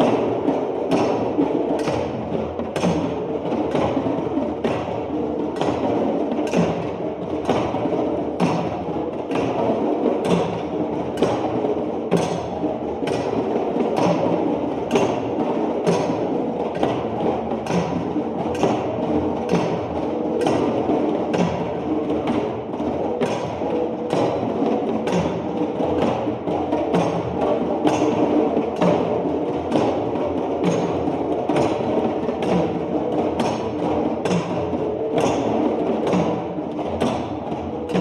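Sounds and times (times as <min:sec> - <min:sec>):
sharp knock keeping a beat: 0:00.0 - 0:38.0.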